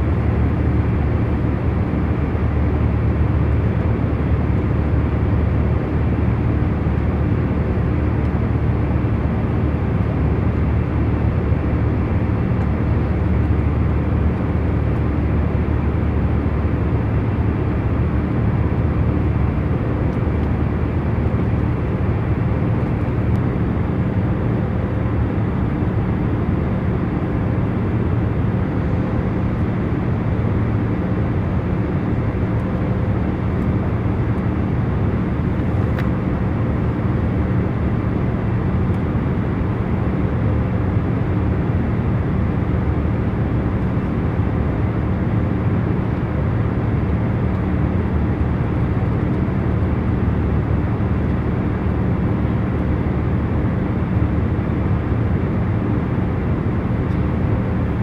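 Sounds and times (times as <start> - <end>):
jet engines and airflow rush: 0.0 - 58.0.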